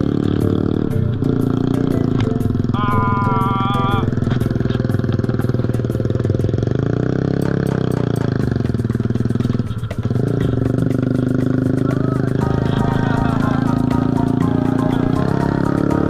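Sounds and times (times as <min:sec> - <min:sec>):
scooter engine running: 0:00.0 - 0:16.0.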